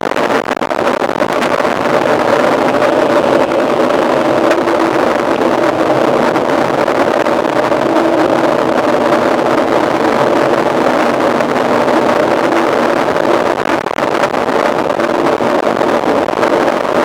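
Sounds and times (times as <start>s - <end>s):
wind rushing over microphone: 0.0s - 17.0s
bike tyres and drivetrain hum: 0.8s - 17.0s.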